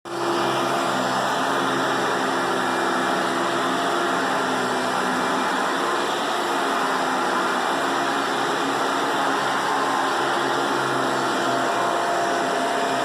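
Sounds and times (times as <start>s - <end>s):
vacuum cleaner running: 0.1s - 13.0s.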